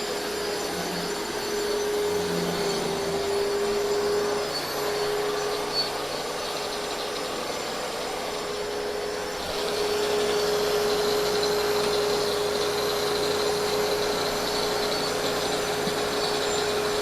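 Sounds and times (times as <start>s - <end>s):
harsh grinding hiss: 0.0s - 17.0s
motor hum: 0.0s - 17.0s.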